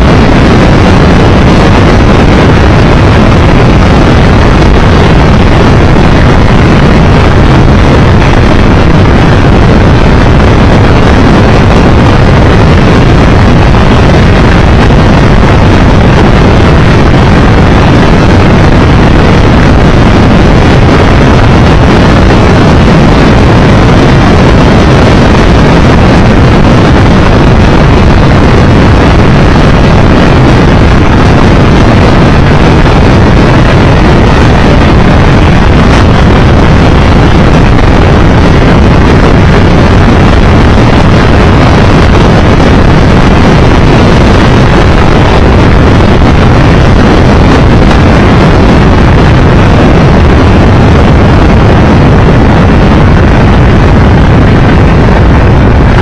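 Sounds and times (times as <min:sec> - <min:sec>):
motorcycle engine and road noise: 0:00.0 - 0:56.0
wind rushing over microphone: 0:00.0 - 0:56.0.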